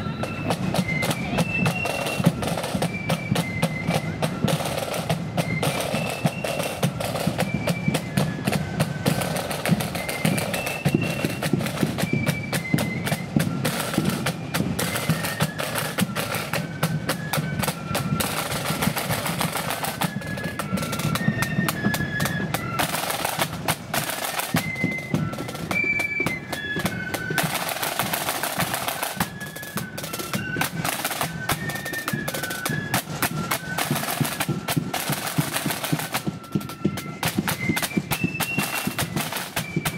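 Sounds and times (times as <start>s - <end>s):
flute melody: 0.0s - 39.9s
snare drum rolls: 0.2s - 39.9s.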